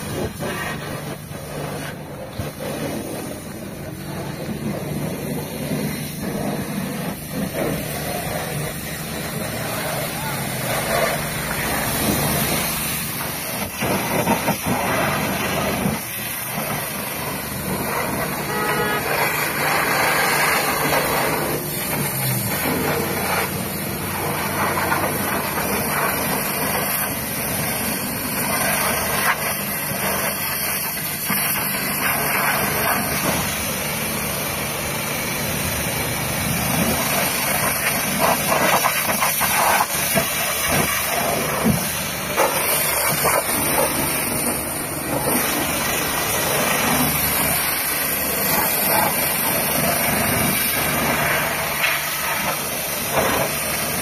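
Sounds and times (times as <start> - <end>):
pressure washer jet hissing: 0.0 - 54.0.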